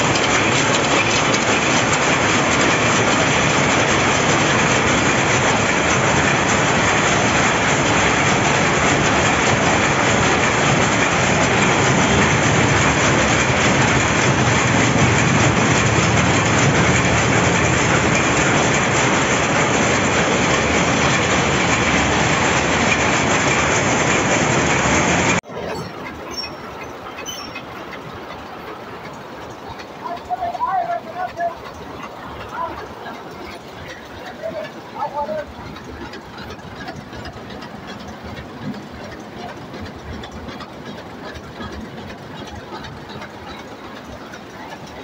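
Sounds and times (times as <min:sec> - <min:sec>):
power looms clattering: 0:00.0 - 0:45.0.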